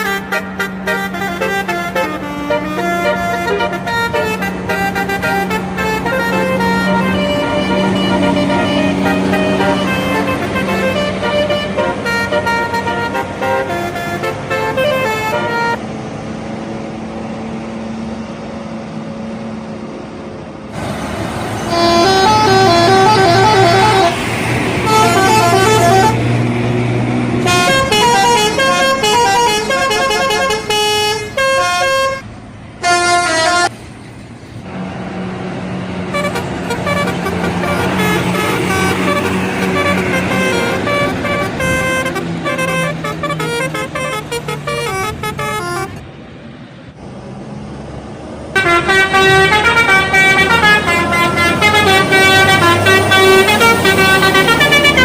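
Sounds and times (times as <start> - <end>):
bus horns playing tunes: 0.0 - 15.9, 20.8 - 33.8, 35.9 - 46.1, 48.5 - 55.0
bus engine: 0.0 - 55.0
traffic noise: 0.0 - 55.0.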